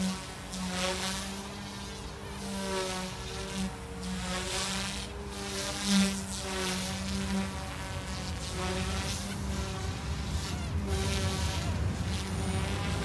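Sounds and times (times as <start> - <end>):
rc helicopter buzzing whine: 0.0 - 13.0.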